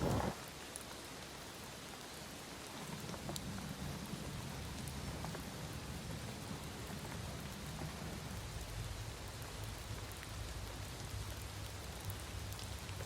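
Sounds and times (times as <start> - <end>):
heavy rain falling: 0.0 - 13.0
raindrops ticking close by: 0.2 - 13.0.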